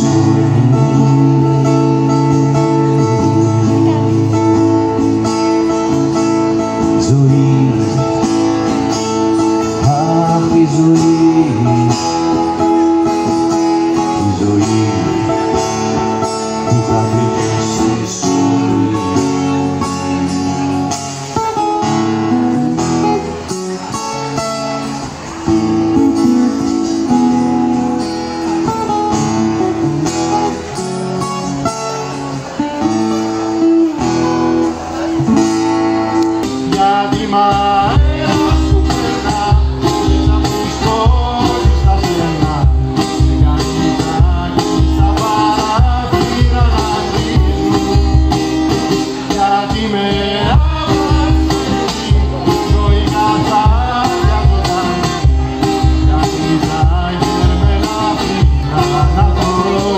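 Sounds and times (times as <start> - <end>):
two acoustic guitars playing: 0.0 - 59.9.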